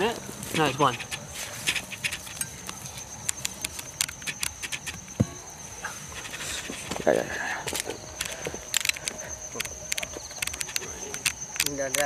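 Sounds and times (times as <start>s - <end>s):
clicks and soil rustling: 0.0s - 12.0s
crickets chirping: 0.0s - 12.0s.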